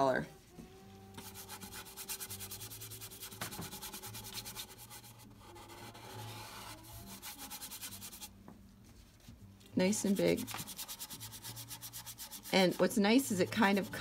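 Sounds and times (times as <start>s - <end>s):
paintbrush scrubbing paint: 1.2s - 8.3s, 9.8s - 14.0s.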